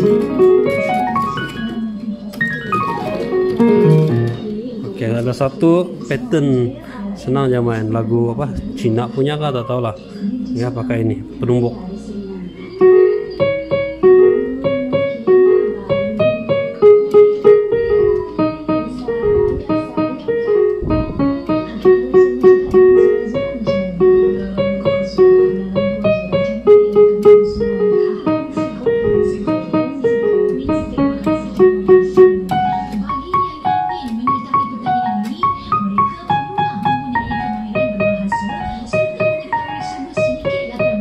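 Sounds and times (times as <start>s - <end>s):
keyboard playing rhythmic tune: 0.0s - 5.4s, 12.6s - 41.0s.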